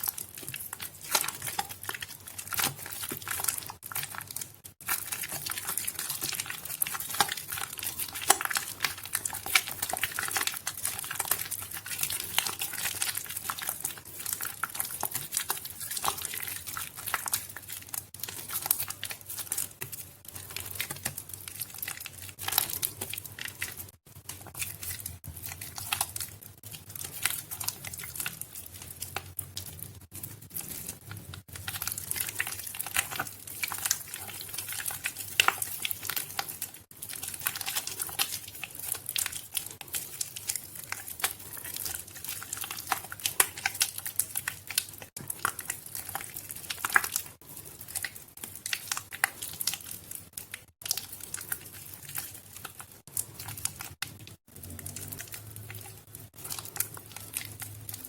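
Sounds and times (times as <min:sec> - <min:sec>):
wet soap squished by hand: 0:00.0 - 0:58.0.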